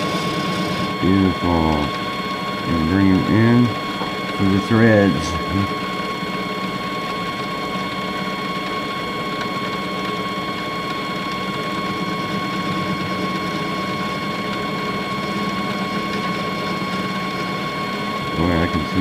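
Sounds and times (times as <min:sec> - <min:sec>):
metal lathe whining: 0:00.0 - 0:19.0.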